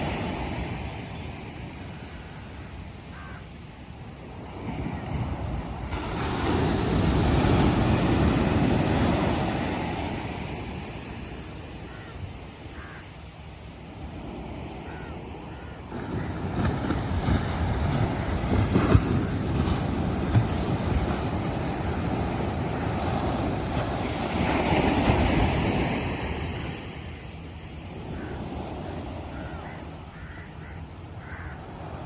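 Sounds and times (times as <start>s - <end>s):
ocean waves breaking: 0.0s - 32.0s.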